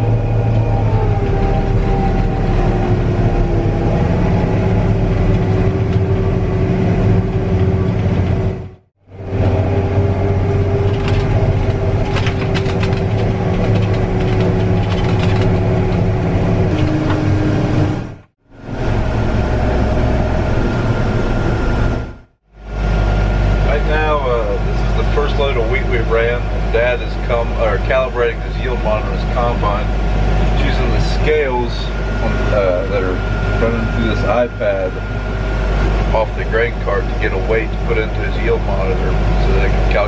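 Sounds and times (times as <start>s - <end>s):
heavy machinery engines running: 0.0s - 40.0s.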